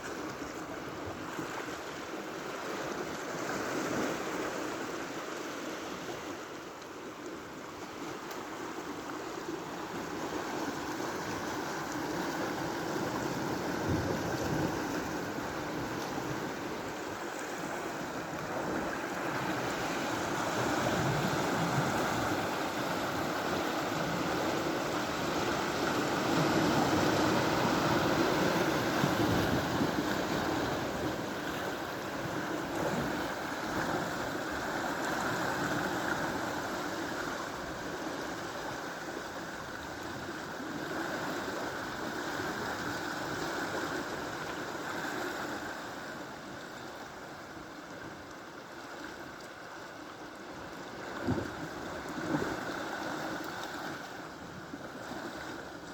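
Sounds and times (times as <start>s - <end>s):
sea waves washing on shore: 0.0s - 55.9s.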